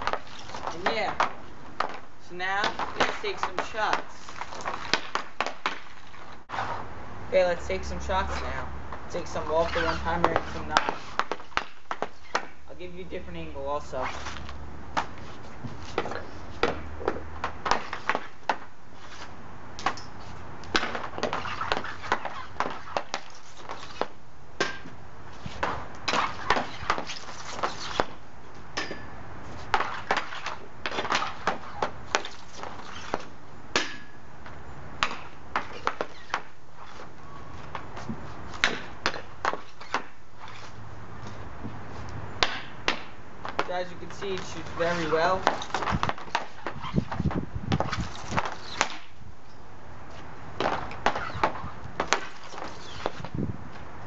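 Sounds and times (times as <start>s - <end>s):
hockey puck clacks and slaps: 0.0s - 2.0s, 2.6s - 6.3s, 9.6s - 12.6s, 14.0s - 28.2s, 28.8s - 34.2s, 35.0s - 40.7s, 42.4s - 49.1s, 50.6s - 53.4s.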